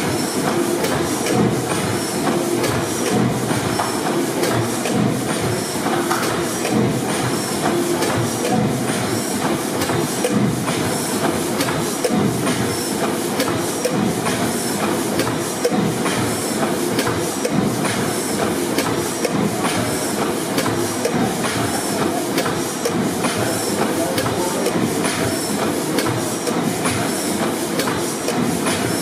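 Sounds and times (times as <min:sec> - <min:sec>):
gas engine knocking: 0:00.0 - 0:29.0.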